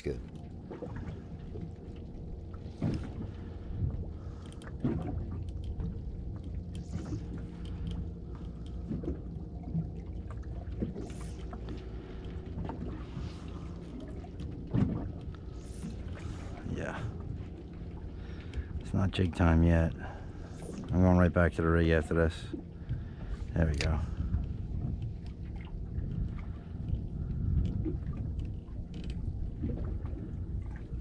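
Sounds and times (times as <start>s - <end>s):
boat hum: 0.0s - 31.0s
water against hull: 0.0s - 31.0s.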